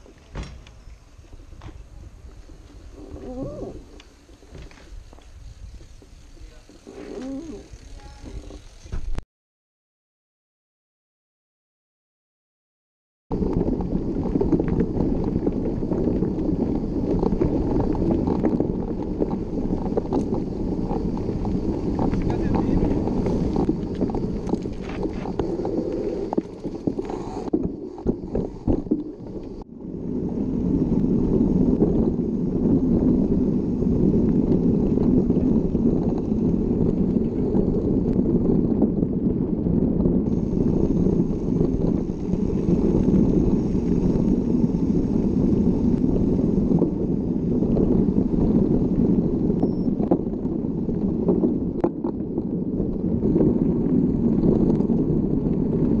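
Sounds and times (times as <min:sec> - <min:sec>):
bike rolling over trail: 0:00.0 - 0:09.2, 0:13.3 - 0:56.0
wind rushing on microphone: 0:00.0 - 0:09.2, 0:13.3 - 0:56.0.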